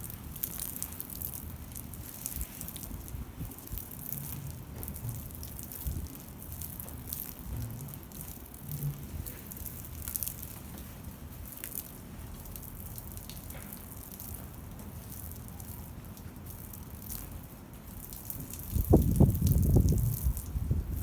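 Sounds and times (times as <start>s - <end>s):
water dripping: 0.1s - 21.0s.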